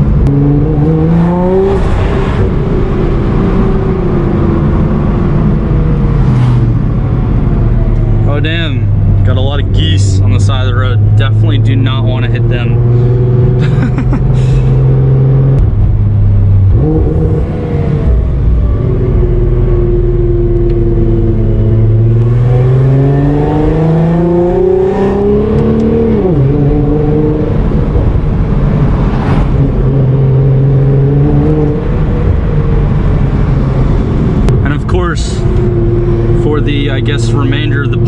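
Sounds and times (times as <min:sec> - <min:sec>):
car engine from inside cabin: 0:00.0 - 0:38.0.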